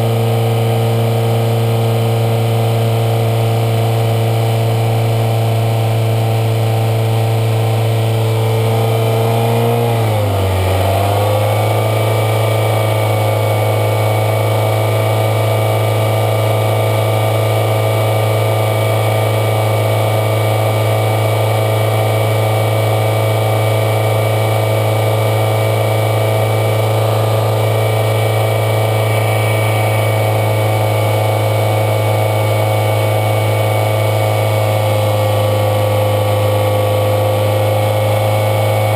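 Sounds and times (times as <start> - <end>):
car engine idling: 0.0 - 9.1, 11.2 - 38.9.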